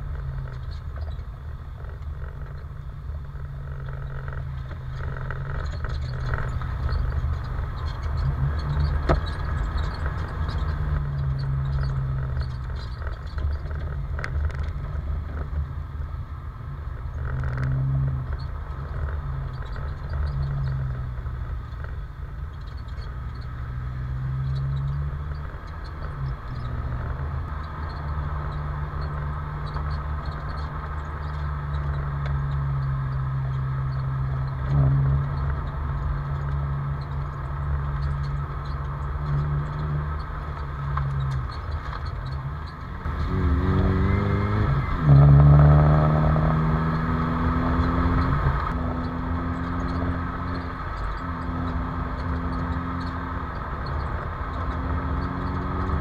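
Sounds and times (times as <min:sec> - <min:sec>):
car engine accelerating: 0:00.0 - 0:56.0
road rumble: 0:00.0 - 0:56.0.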